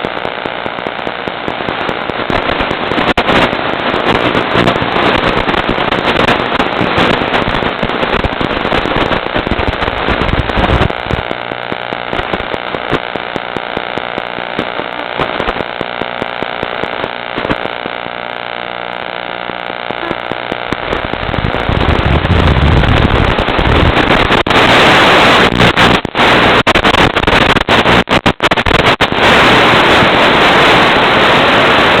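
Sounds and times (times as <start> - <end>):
loud crackling static: 0.0 - 32.0
steady multi-tone hum: 0.0 - 32.0.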